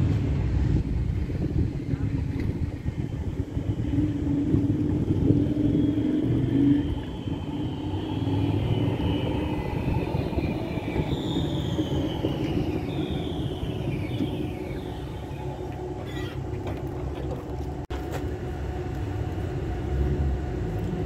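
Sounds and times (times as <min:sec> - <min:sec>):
tram rumbling past: 0:00.0 - 0:21.0
high whining tones gliding down: 0:00.8 - 0:21.0.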